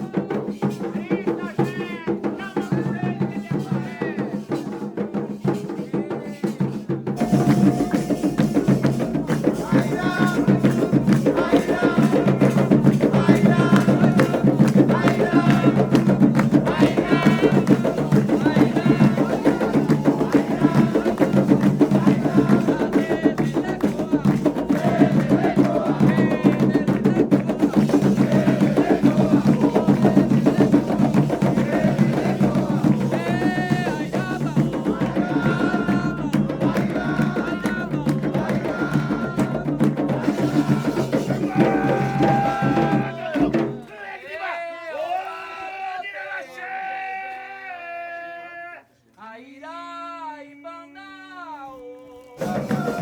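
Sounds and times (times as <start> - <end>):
clacking percussion beat: 0.0 - 43.9, 52.4 - 53.0
drums: 0.0 - 43.9, 52.3 - 53.0
voices singing: 0.0 - 53.0.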